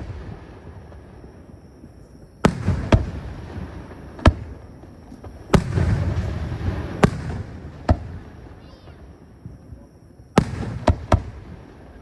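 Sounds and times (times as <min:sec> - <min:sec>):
fireworks bangs: 0:00.0 - 0:12.0
rumbling crackle of fireworks: 0:00.0 - 0:12.0.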